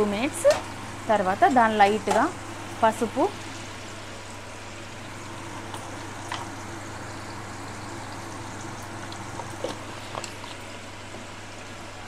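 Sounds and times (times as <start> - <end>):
spices sizzling in hot oil: 0.0 - 11.4.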